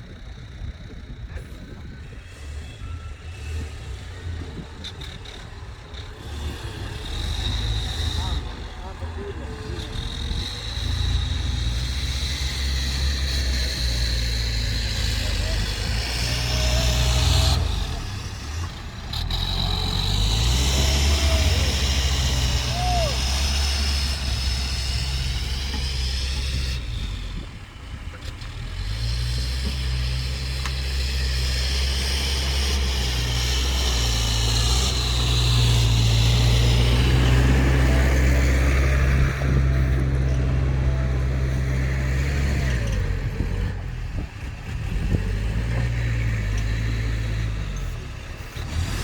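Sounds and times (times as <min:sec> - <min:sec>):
diesel truck engine under load: 0:00.0 - 0:49.0.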